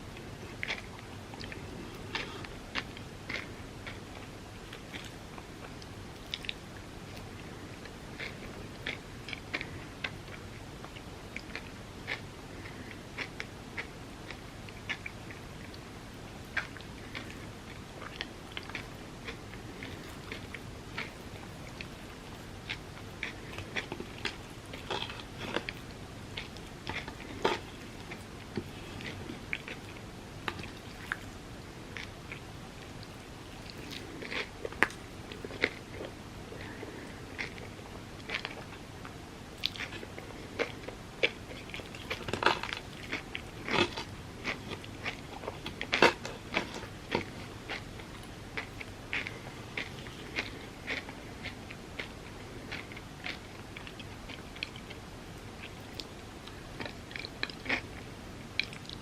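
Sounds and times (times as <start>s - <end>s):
person chewing with mouth clicks: 0.2s - 15.8s, 16.5s - 58.0s, 58.6s - 59.0s.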